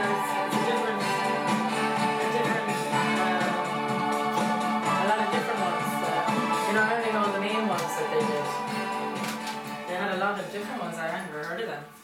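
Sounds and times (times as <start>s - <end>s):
music from stereo system: 0.0s - 12.0s.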